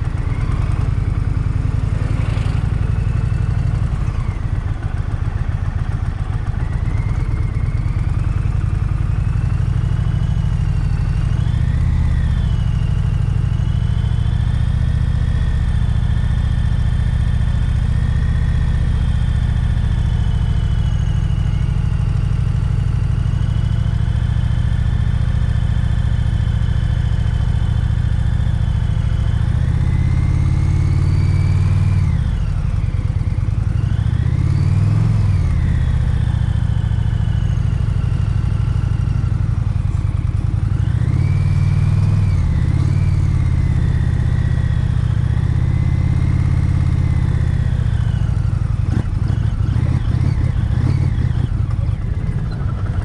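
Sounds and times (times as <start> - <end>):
motorcycle engine at low speed: 0.0 - 53.0.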